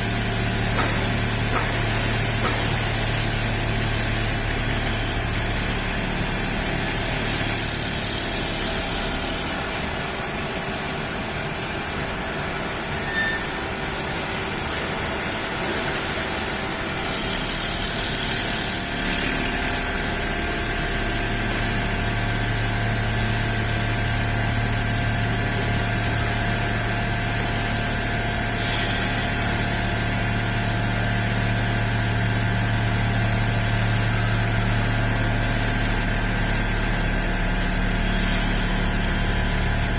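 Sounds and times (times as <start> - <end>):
machine mechanical hum: 0.0 - 39.9.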